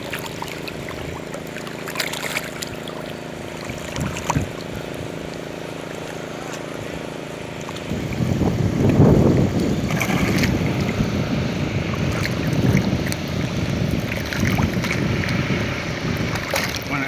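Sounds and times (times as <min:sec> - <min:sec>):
low rumbling wash: 0:00.0 - 0:17.0
water sloshing and splashing: 0:00.0 - 0:17.0.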